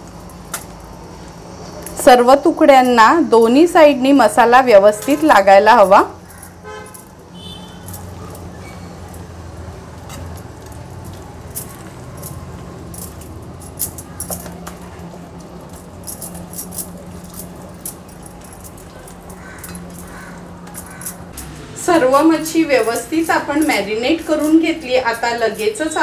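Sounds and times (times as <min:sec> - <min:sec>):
bangles jingling and clinking: 0:00.0 - 0:01.0, 0:04.9 - 0:21.7, 0:22.4 - 0:26.0.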